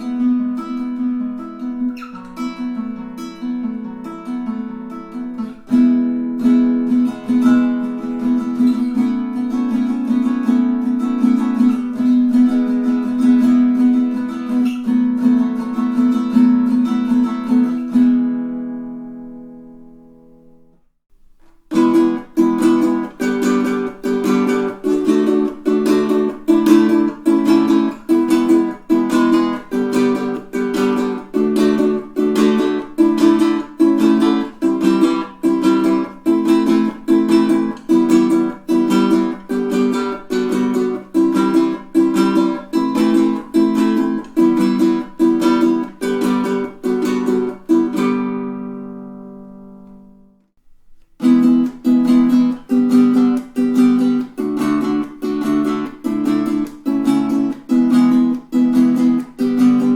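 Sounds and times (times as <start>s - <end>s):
ukulele strumming chords: 0.0s - 59.9s.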